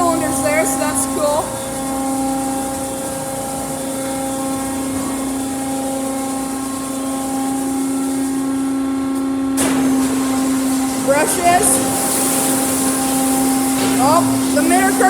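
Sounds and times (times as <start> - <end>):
car wash motors humming: 0.0 - 15.0
rushing hiss: 0.0 - 15.0.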